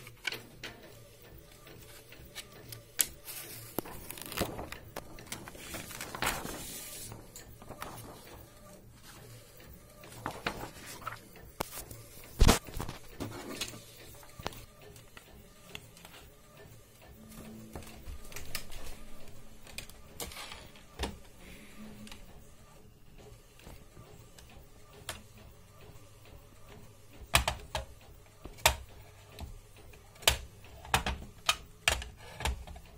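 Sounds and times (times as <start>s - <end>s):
laminator humming: 0.0s - 30.8s.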